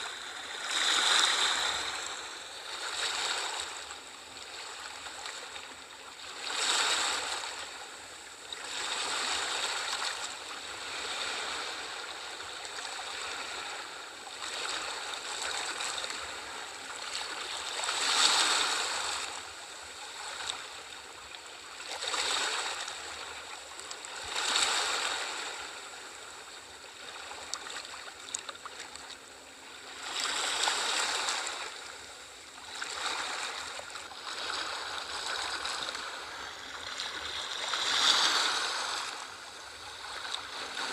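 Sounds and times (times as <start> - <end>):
sea waves washing onto shore: 0.0 - 5.6, 6.4 - 20.9, 27.1 - 40.9.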